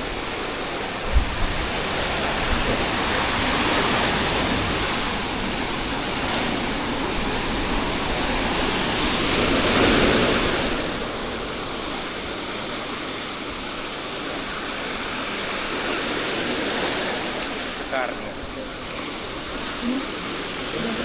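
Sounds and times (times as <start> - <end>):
sea waves washing onto beach: 0.0 - 21.0.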